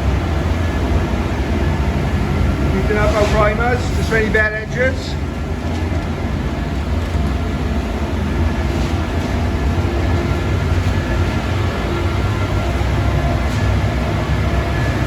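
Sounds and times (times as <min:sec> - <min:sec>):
machinery rumble with hiss: 0:00.0 - 0:15.0.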